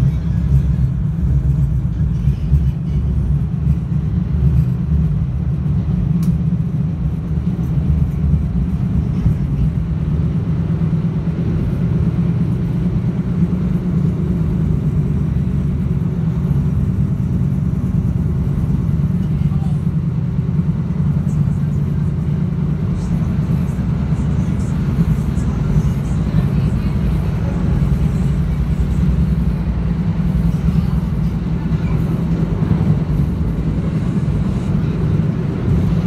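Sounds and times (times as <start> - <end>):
train running low rumble: 0.0 - 36.0.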